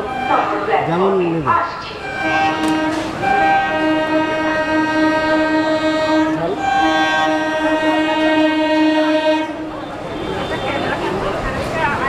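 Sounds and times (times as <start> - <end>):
train horn blasts: 0.0 - 1.2, 1.9 - 11.1.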